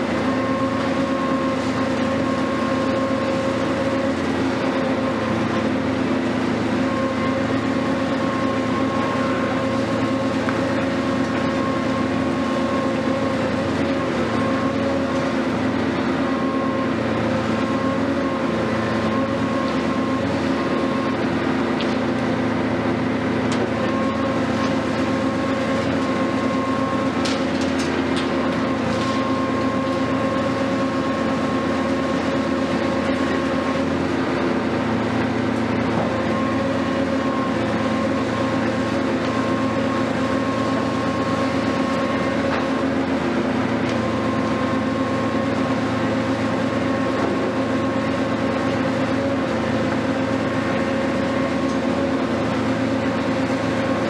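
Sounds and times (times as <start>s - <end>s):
excavator engine droning: 0.0s - 54.0s
hydraulic whine: 0.0s - 54.0s.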